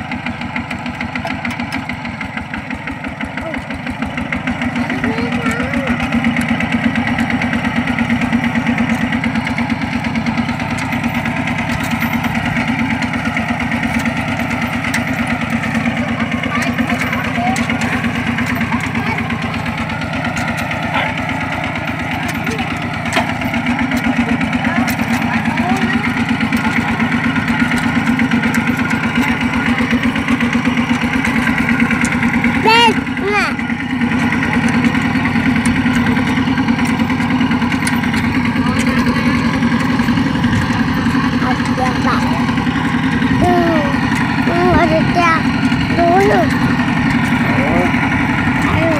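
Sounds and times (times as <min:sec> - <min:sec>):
diesel engine chugging: 0:00.0 - 0:48.9.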